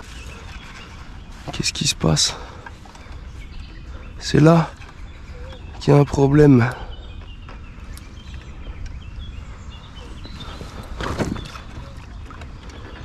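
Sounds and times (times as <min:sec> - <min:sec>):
water lapping: 0:00.0 - 0:13.0.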